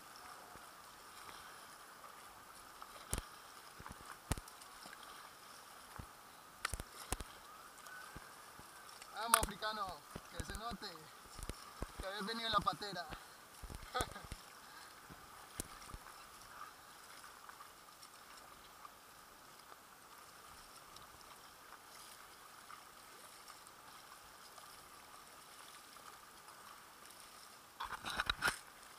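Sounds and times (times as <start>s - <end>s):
sea water washing around kayak: 0.0s - 28.9s
faint ticks: 0.2s - 5.2s, 5.8s - 24.9s.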